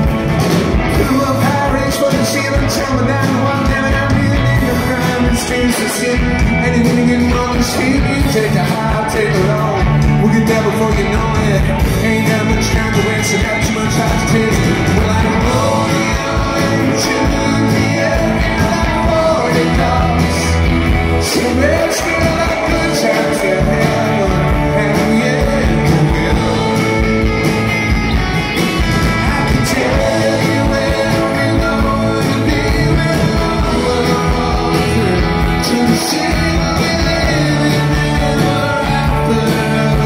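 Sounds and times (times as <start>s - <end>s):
live rock band playing: 0.0s - 40.0s
man singing lead vocals: 0.0s - 40.0s.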